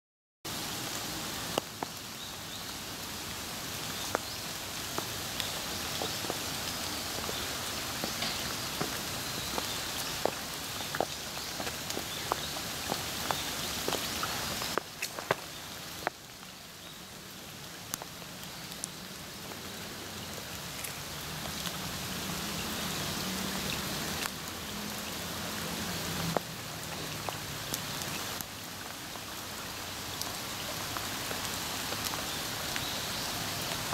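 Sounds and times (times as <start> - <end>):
sharp ticks of raindrops: 0.5 - 33.9
steady rain hiss: 0.5 - 33.9.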